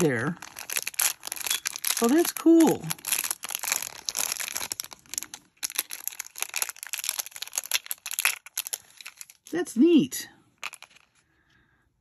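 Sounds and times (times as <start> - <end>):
plastic bag crinkling: 0.0 - 9.7, 10.6 - 11.3.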